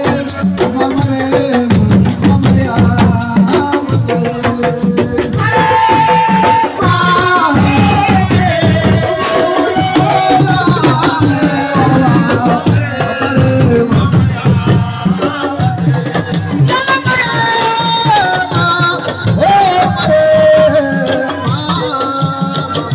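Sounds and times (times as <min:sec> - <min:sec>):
dense percussion: 0:00.0 - 0:22.9.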